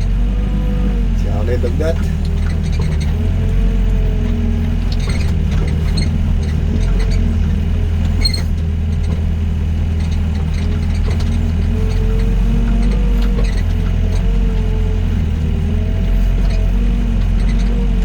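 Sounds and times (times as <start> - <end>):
diesel engine running: 0.0 - 18.0
tracks clanking and rattling: 0.0 - 18.0.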